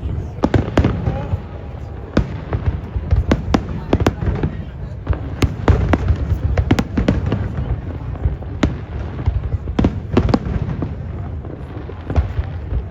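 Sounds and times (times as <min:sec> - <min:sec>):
fireworks bangs and pops: 0:00.0 - 0:12.9.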